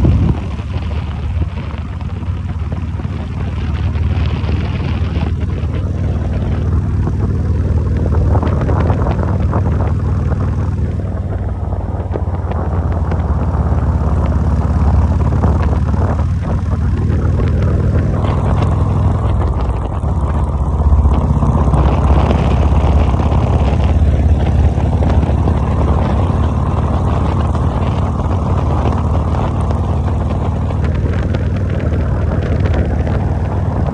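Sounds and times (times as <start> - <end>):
motorcycle engine running: 0.0 - 33.9
wind and road noise: 0.0 - 33.9.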